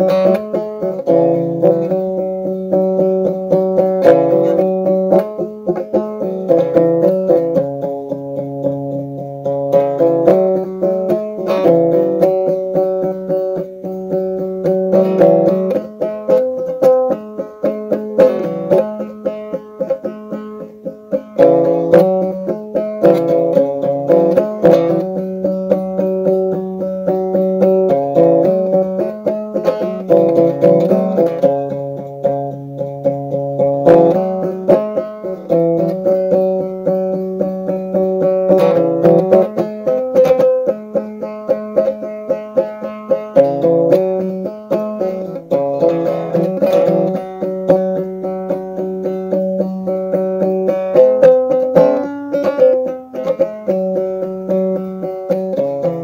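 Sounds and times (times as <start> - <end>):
lyre plucked melody: 0.0 - 56.0.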